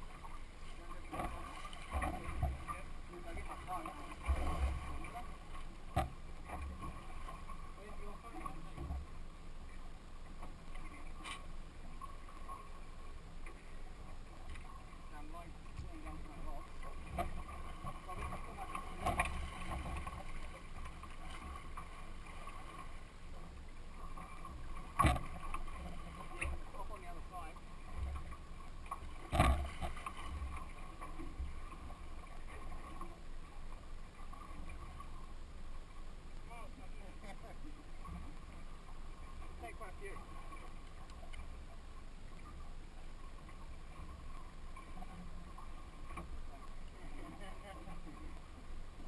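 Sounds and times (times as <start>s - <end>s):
boat engine low rumble: 0.0s - 49.0s.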